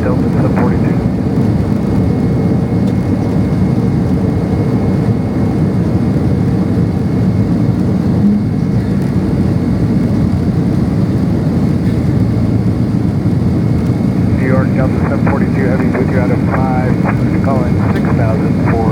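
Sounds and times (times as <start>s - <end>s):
jet engines: 0.0s - 18.9s.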